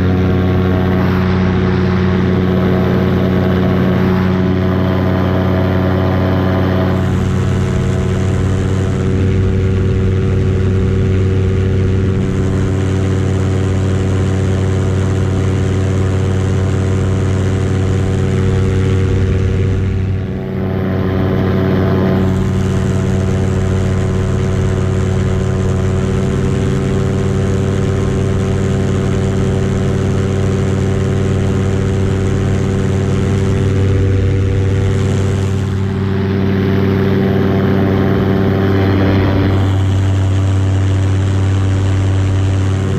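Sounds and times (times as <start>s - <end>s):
paramotor engine droning: 0.0s - 42.9s.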